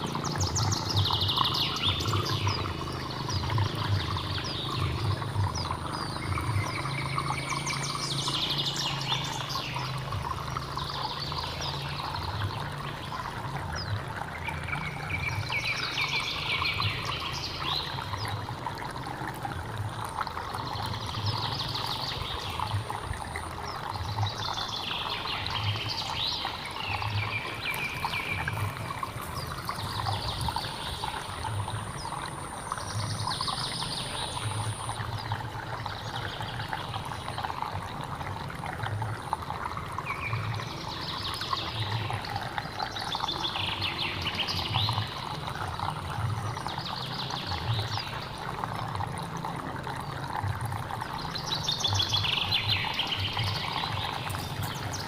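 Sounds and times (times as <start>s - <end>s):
hill stream running: 0.0s - 55.0s.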